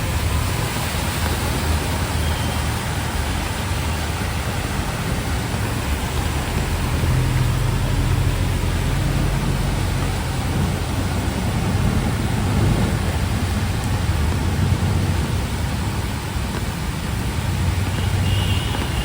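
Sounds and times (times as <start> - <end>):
heavy rain hissing: 0.0 - 19.0
vehicle engines rumbling: 0.0 - 19.0.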